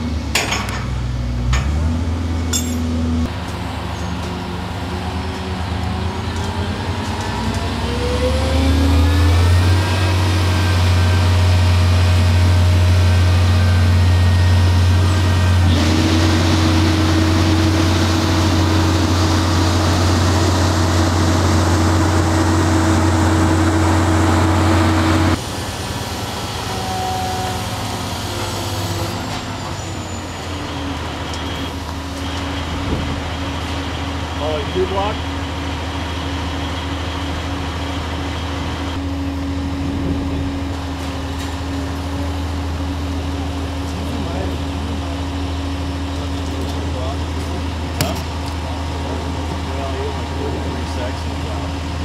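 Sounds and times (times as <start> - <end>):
crane diesel engine under load: 0.0 - 52.0.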